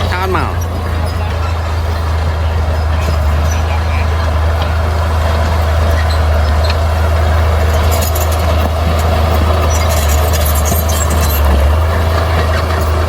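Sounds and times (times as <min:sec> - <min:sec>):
diesel machinery engine hum: 0:00.0 - 0:13.0
faint rattling and clicking: 0:00.0 - 0:13.0.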